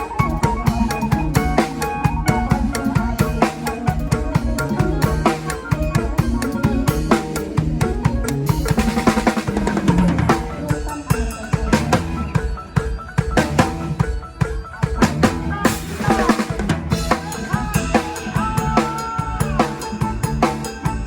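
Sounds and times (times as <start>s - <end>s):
drum kit playing busy beat: 0.0s - 21.0s
pitched melody instruments: 0.0s - 21.0s.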